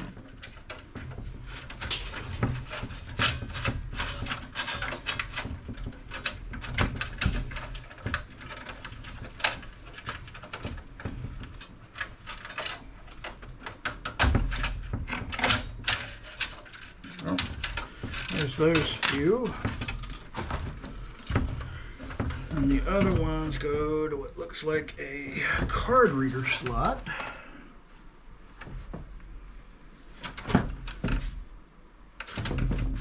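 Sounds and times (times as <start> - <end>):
computer case parts clicking and rattling: 0.0 - 27.4, 30.0 - 33.0
low steady hum: 0.0 - 33.0.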